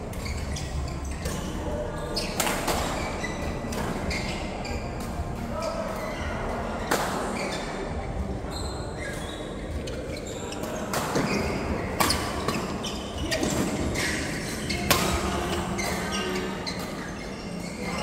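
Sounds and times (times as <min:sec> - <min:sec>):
steady noisy background: 0:00.0 - 0:18.0.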